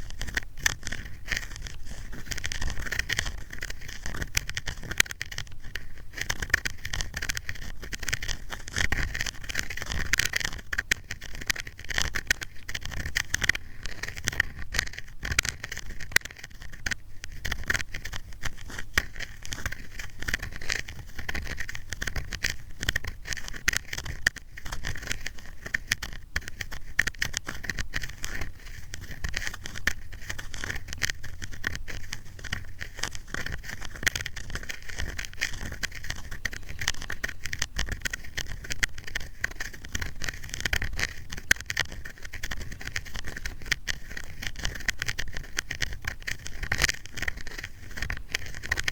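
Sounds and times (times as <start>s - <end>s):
ear pick scraping microphone: 0.0s - 48.9s.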